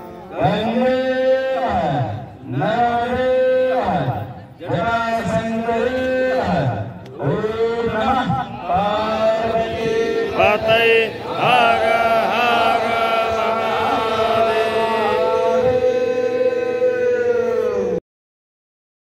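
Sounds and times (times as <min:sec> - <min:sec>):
man chanting into microphone: 0:00.3 - 0:18.0.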